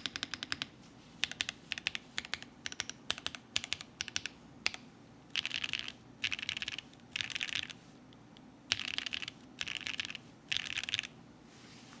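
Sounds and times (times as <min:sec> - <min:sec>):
mechanical keyboard typing: 0:00.0 - 0:07.8, 0:08.7 - 0:11.1.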